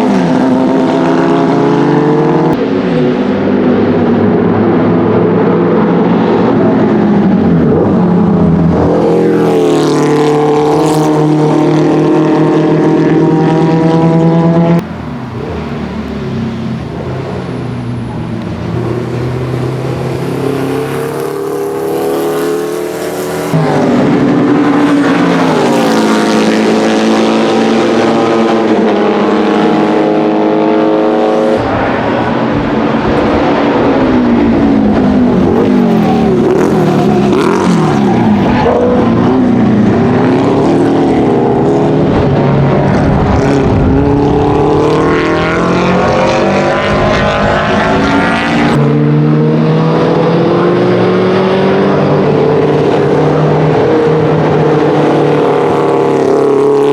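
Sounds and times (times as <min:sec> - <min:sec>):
racing engine running hard: 0:00.0 - 0:56.9.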